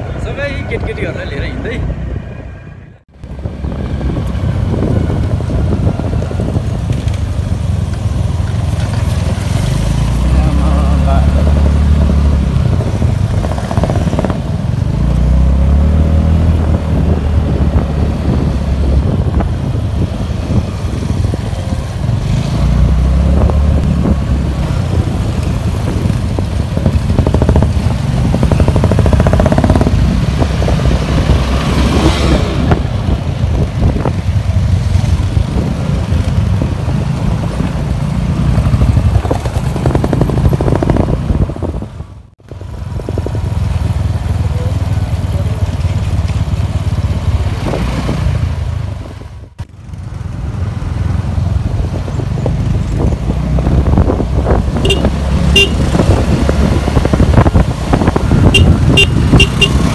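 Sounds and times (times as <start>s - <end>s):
wind rumbling on microphone: 0.0s - 44.7s, 45.3s - 59.9s
other motorcycles running: 0.0s - 59.9s
motorcycle riding on rough road: 3.0s - 59.9s.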